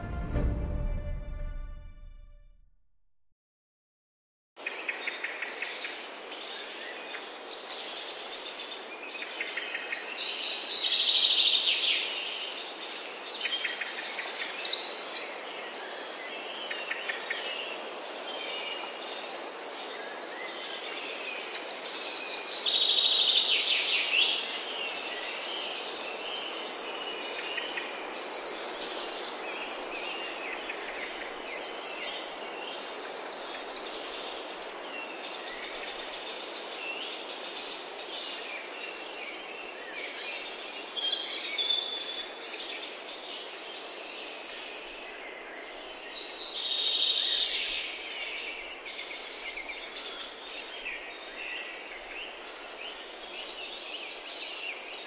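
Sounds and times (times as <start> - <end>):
steady outdoor hiss: 4.6 - 55.0.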